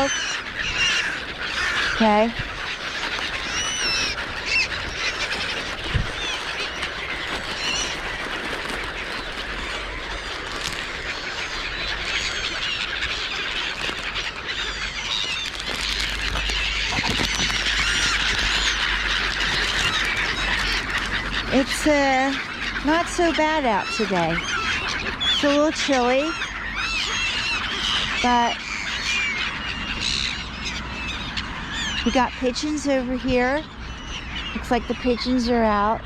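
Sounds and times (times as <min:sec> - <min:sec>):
flock of birds calling: 0:00.0 - 0:36.0.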